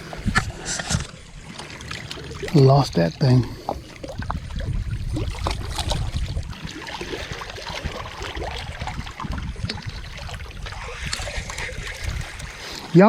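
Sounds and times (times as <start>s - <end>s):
wind rumbling on microphone: 0.0s - 1.5s, 2.4s - 13.0s
water washing: 0.0s - 13.0s.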